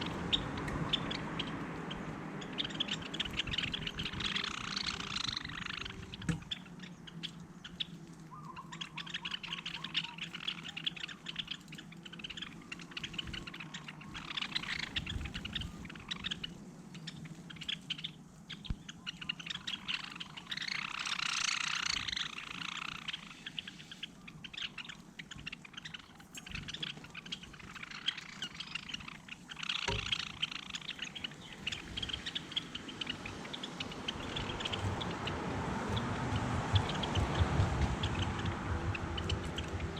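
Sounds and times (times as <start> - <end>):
low steady hum: 0.0 - 20.8, 22.0 - 39.9
small birds chirping: 0.0 - 39.9.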